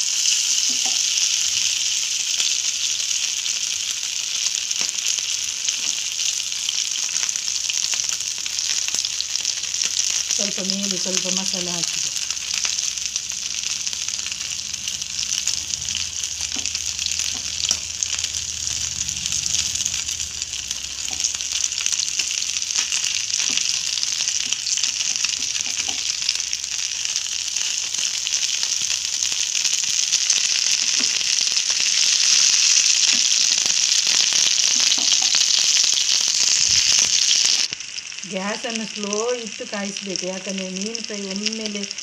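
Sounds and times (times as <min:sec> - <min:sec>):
fish sizzling in a pan: 0:00.0 - 0:42.0.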